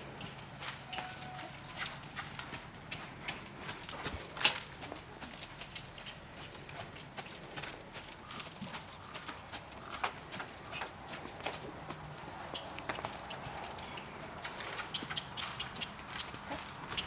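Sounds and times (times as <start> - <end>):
horse hooves trotting on sand: 0.0 - 17.0.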